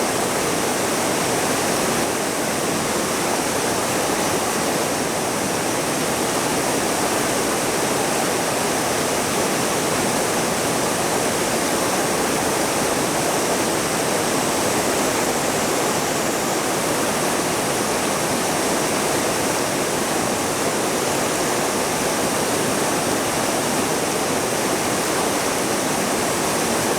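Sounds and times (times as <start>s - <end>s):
waterfall and river rapids rushing: 0.0s - 26.9s.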